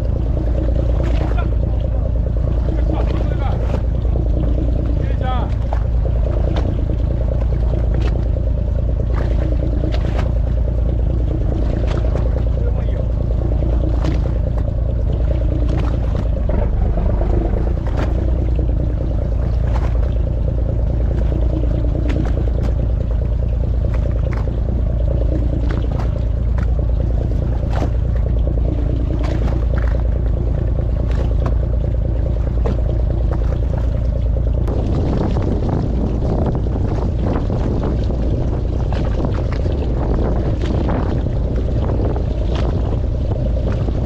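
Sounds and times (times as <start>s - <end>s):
boat engine rumbling: 0.0s - 44.0s.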